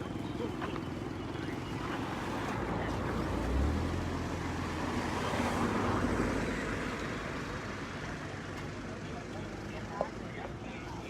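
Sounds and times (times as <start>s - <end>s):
vehicle passing on road: 0.0s - 10.0s.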